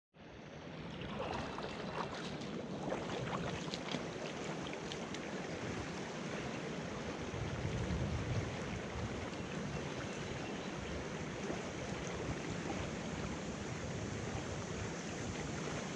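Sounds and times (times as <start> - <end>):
wading footsteps in water: 0.6 - 15.9.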